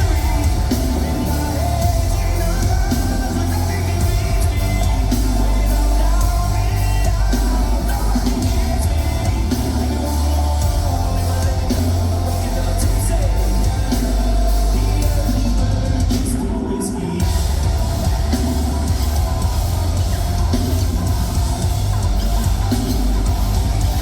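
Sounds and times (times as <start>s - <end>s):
heavy bass: 0.0s - 24.0s
lead vocal singing: 0.0s - 24.0s
steady drum beat: 0.0s - 24.0s.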